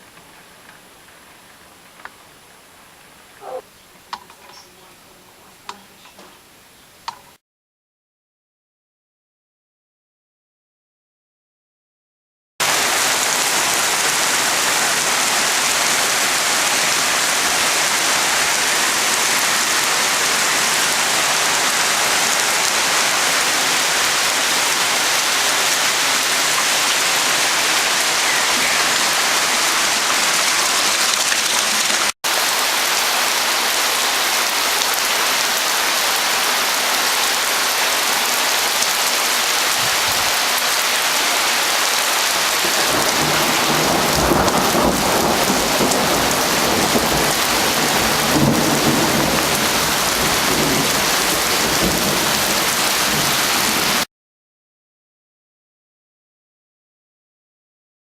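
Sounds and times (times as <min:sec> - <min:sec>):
heavy rain pouring: 0:00.0 - 0:07.2, 0:12.6 - 0:54.1.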